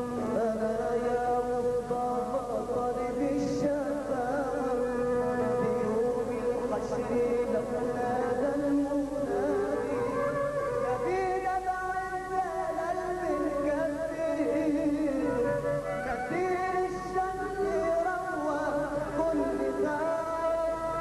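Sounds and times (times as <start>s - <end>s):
man singing: 0.0s - 21.0s.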